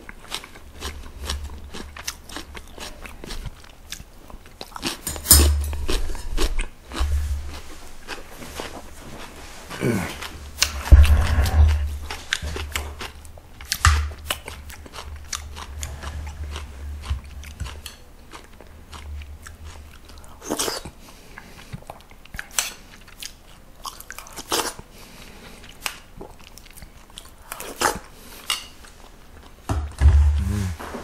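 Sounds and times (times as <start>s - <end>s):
chewing: 0.0s - 29.6s.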